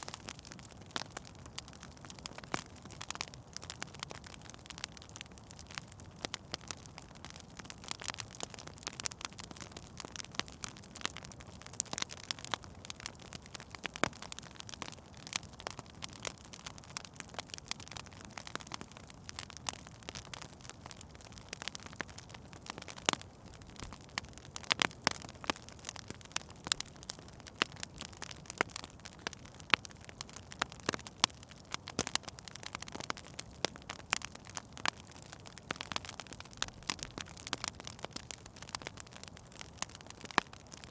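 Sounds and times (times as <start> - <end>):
soft steady hiss: 0.0 - 40.9
wood fire crackling and popping: 0.0 - 40.9.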